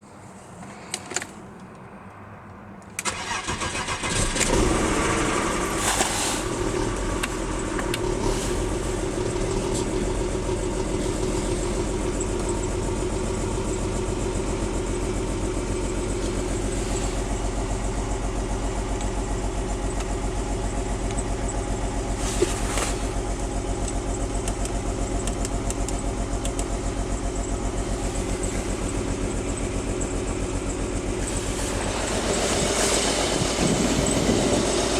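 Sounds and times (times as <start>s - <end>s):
car engine idling: 0.2s - 34.9s
car engine cranking: 2.8s - 34.9s.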